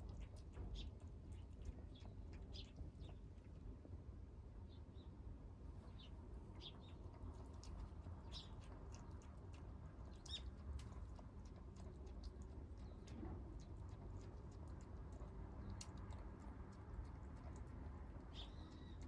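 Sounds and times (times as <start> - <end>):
kittens chewing and lapping: 0.0 - 4.3, 5.6 - 19.0
low steady hum: 0.0 - 19.0.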